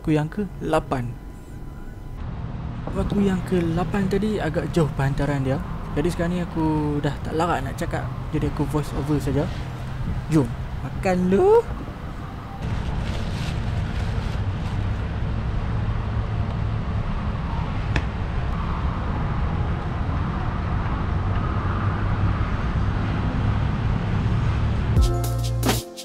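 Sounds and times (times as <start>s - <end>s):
road traffic rumble: 0.0s - 25.3s.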